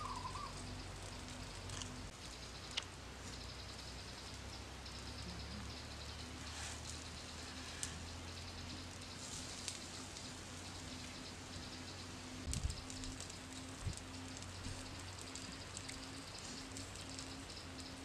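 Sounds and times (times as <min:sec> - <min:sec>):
frogs sizzling on hot stone: 0:00.0 - 0:18.0
sharp ticks: 0:02.5 - 0:18.0.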